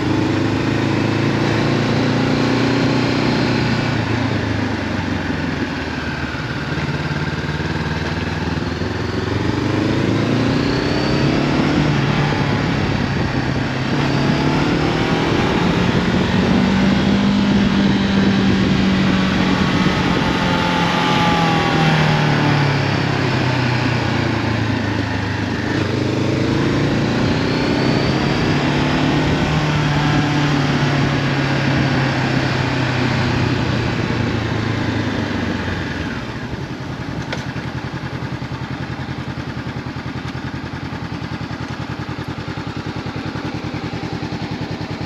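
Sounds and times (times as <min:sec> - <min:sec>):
motorcycle engine revving and idling: 0:00.0 - 0:45.0.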